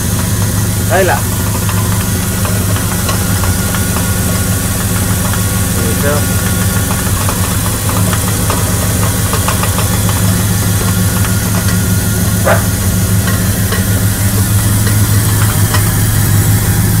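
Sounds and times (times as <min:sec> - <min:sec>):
car engine running: 0:00.0 - 0:17.0
light engine ticks: 0:00.0 - 0:17.0.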